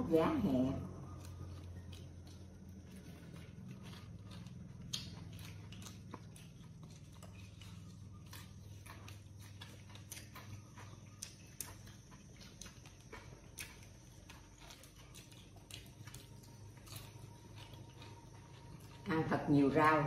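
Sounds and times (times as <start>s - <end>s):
low steady hum: 0.0s - 20.0s
chewing clicks and smacks: 0.9s - 19.1s.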